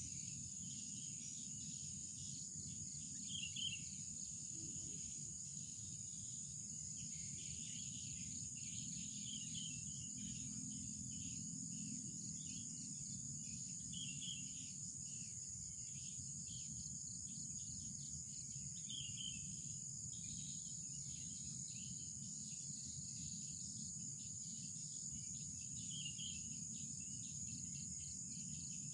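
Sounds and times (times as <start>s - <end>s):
insects droning: 0.0s - 28.9s.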